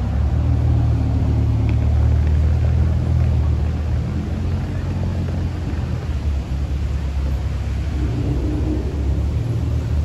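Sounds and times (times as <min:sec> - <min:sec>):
car engine deep rumble: 0:00.0 - 0:10.0.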